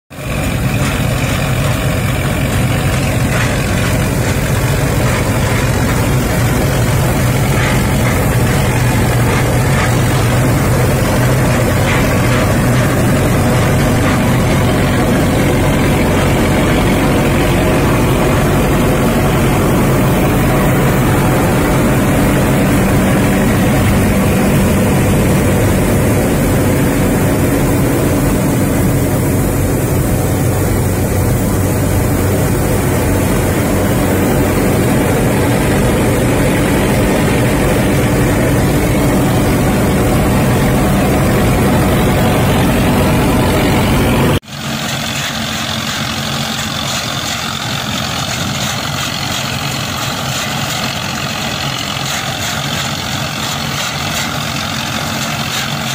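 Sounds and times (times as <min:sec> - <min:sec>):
tractor diesel engine droning: 0:00.1 - 0:55.9.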